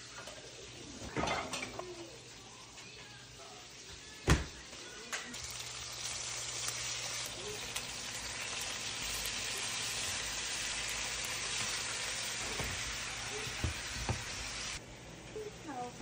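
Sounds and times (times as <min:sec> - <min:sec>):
chicken sizzling in oil: 0:00.0 - 0:14.8.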